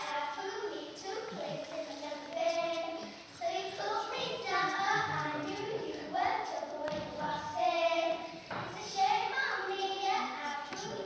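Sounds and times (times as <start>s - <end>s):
girls singing into a microphone: 0.0s - 11.0s.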